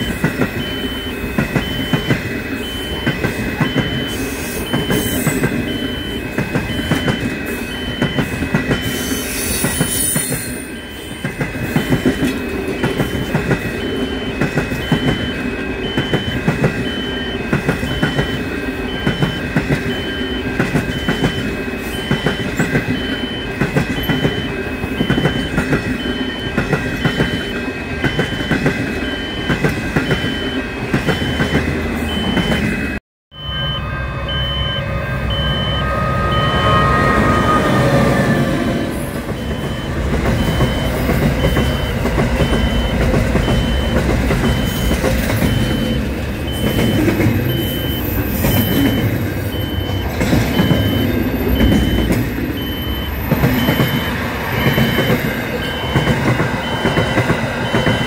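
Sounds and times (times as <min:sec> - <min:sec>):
freight train rumbling and clattering: 0:00.0 - 0:32.9, 0:35.4 - 0:58.0
crossing alarm beeping: 0:00.0 - 0:58.0
passenger train passing: 0:00.0 - 0:58.0.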